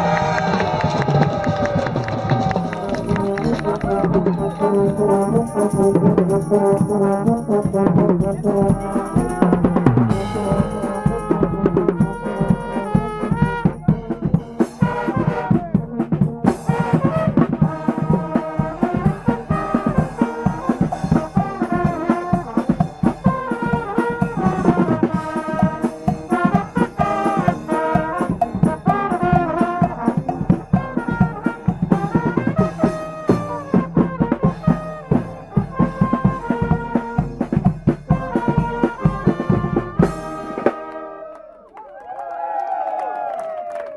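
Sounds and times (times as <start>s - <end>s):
steady drum beat: 1.5s - 40.8s
brass band playing: 2.0s - 41.5s.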